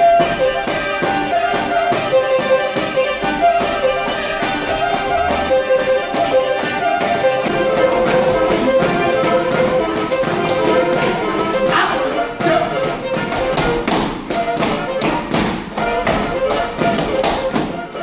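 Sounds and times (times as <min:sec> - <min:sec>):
bowed fiddle fast melody: 0:00.0 - 0:18.0
quick steady beat: 0:00.0 - 0:18.0.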